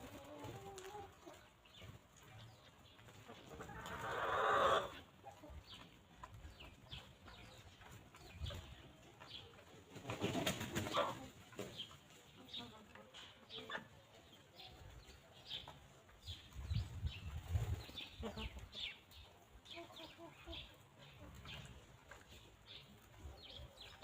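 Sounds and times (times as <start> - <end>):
chickens clucking: 0.0 - 24.0
small birds chirping: 0.0 - 24.0.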